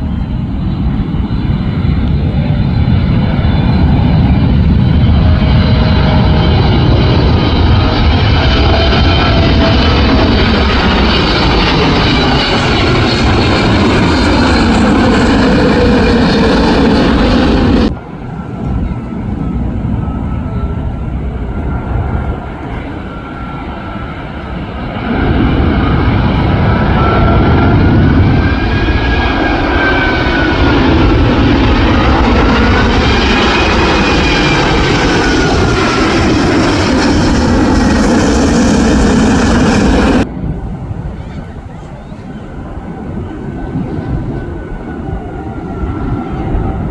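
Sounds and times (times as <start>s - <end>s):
jet airliner passing overhead: 0.0s - 46.9s
whining engine tone: 0.1s - 40.8s.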